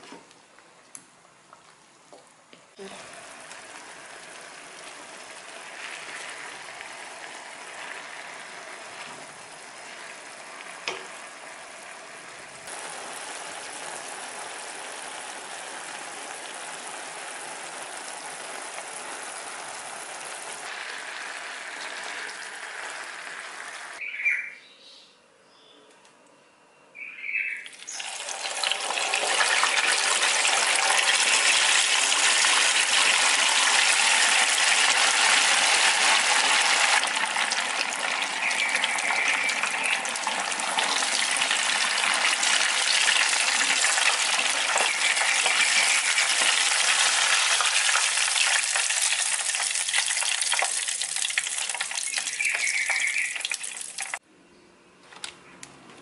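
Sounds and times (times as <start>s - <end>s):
chicken sizzling in hot oil: 2.8s - 24.0s, 27.7s - 54.2s
pot of water boiling: 2.8s - 24.0s, 27.7s - 54.2s.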